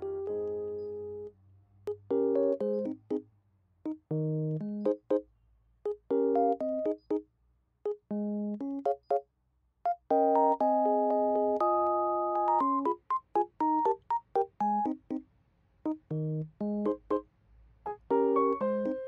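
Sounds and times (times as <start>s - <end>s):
light keyboard tune: 0.0s - 1.3s, 1.9s - 3.2s, 3.8s - 15.2s, 15.8s - 17.3s, 17.9s - 19.0s.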